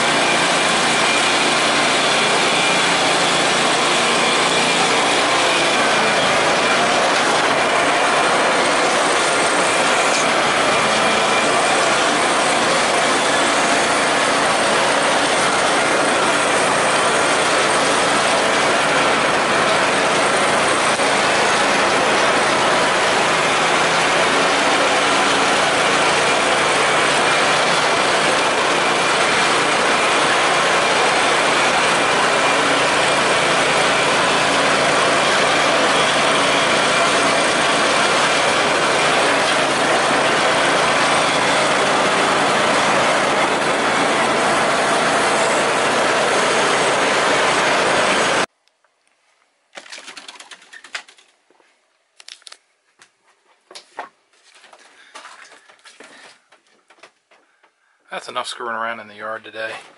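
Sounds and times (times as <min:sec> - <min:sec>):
garden tractor engine running: 0:00.0 - 0:48.5.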